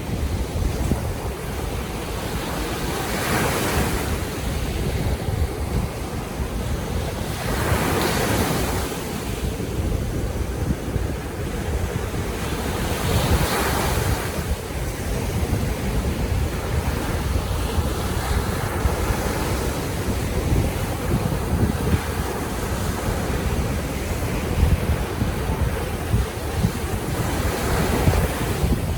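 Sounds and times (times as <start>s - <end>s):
sea waves washing in: 0.0s - 28.9s
wind buffeting microphone: 0.0s - 28.9s.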